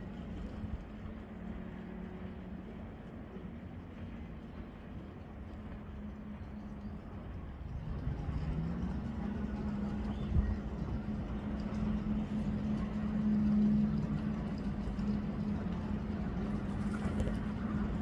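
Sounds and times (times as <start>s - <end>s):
distant jet ski engines droning: 0.0s - 18.0s.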